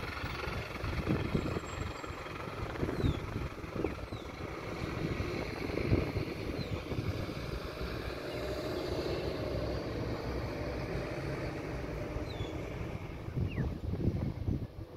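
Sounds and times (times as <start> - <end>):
fire truck diesel engine running: 0.0 - 14.9.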